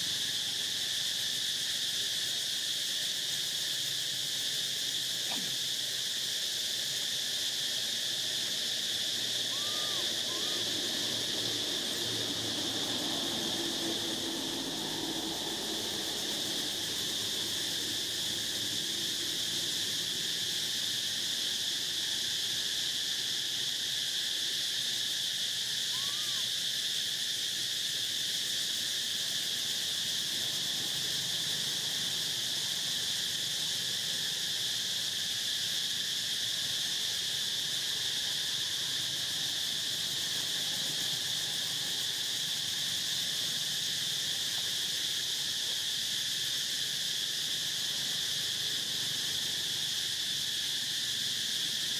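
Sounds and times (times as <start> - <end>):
faint insect chirp: 0.0 - 51.9
insect chorus drone: 0.0 - 51.9.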